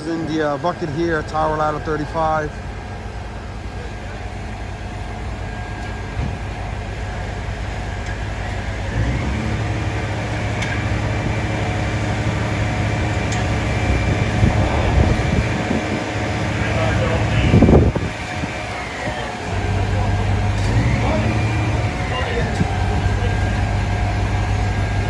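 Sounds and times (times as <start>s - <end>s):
deep engine hum: 0.0s - 25.0s
diesel engine running: 0.0s - 25.0s
street noise: 0.0s - 25.0s.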